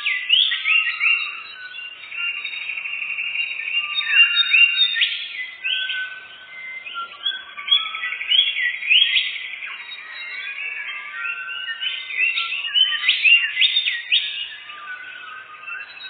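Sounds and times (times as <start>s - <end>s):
songbird trilling and whistling: 0.0s - 16.0s.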